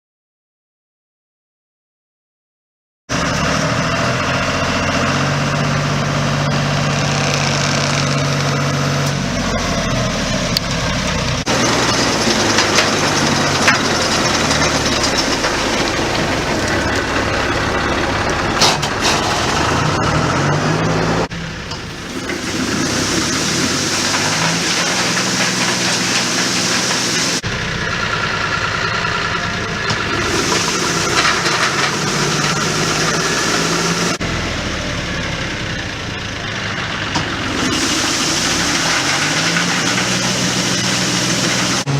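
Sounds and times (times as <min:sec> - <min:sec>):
engine running: 0:03.1 - 0:41.9.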